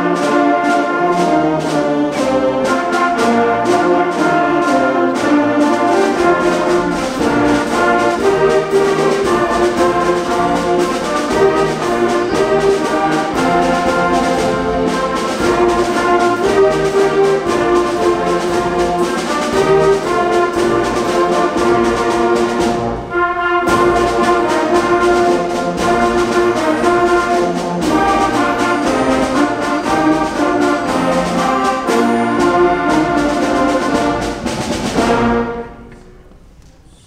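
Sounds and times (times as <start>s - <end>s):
concert band playing: 0.0s - 36.4s.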